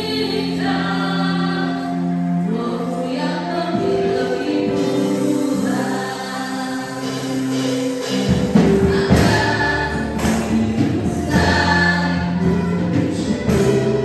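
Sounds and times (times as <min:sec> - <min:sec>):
keyboard and band accompaniment: 0:00.0 - 0:14.0
women singing worship song: 0:00.0 - 0:14.0.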